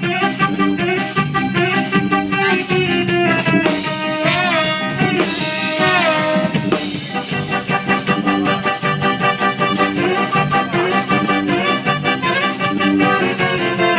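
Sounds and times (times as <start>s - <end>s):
drum kit beat: 0.0s - 13.9s
lead melody with sliding notes: 0.0s - 13.9s.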